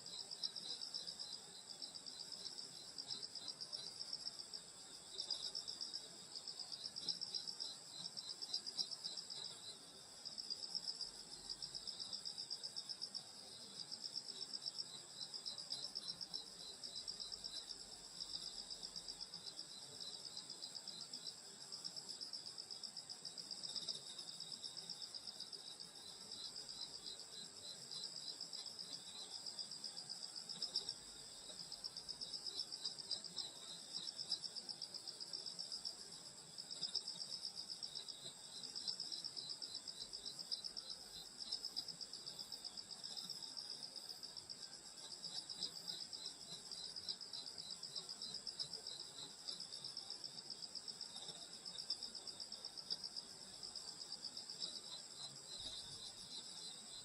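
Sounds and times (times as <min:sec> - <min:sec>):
cricket pulsing chirps: 0:00.0 - 0:57.0.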